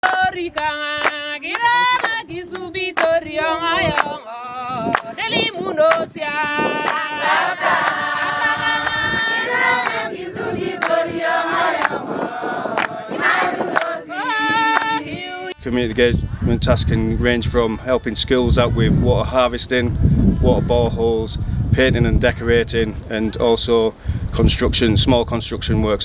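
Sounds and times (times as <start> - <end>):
group singing: 0.0 - 21.0.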